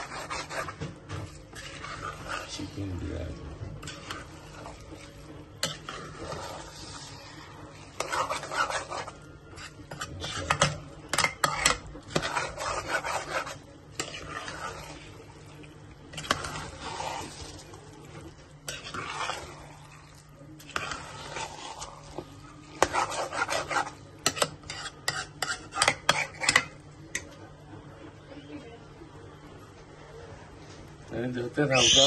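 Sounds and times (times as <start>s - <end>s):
spoon stirring in a pot: 0.0s - 27.5s.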